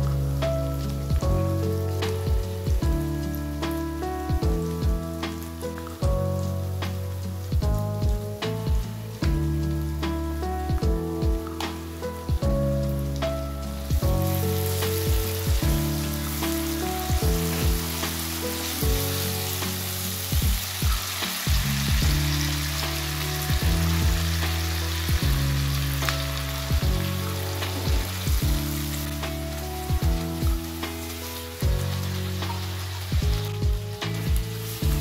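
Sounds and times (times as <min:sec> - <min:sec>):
background music with low beat: 0:00.0 - 0:35.0
sauce sizzling in a wok: 0:00.0 - 0:35.0.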